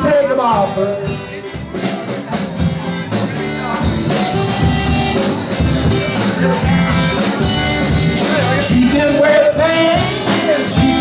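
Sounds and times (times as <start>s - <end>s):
drums keeping a steady beat: 0.0s - 11.0s
live rock band playing: 0.0s - 11.0s.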